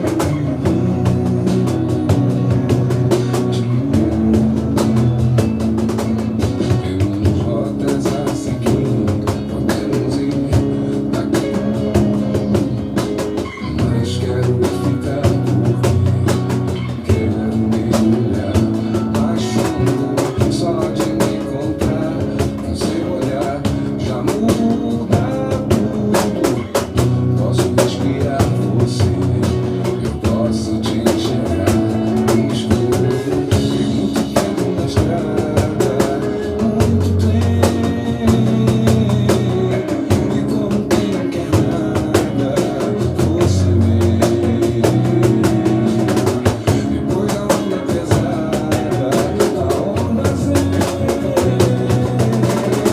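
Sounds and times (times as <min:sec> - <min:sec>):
sustained bass notes: 0:00.0 - 0:52.9.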